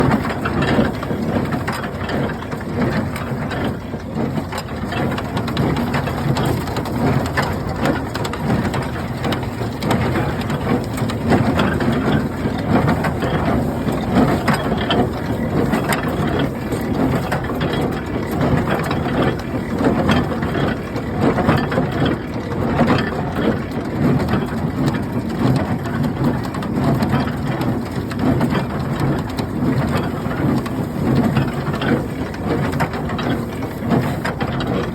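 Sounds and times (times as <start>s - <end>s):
hay baler clattering: 0.0s - 34.9s.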